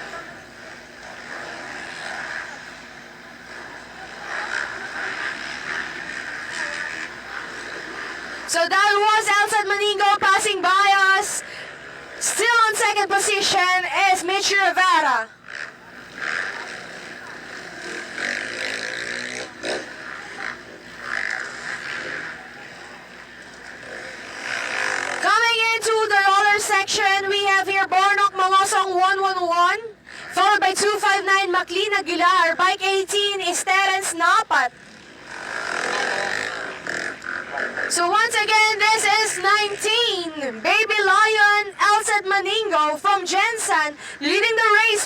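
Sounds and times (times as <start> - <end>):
motocross bike engine passing: 0.0 - 45.0.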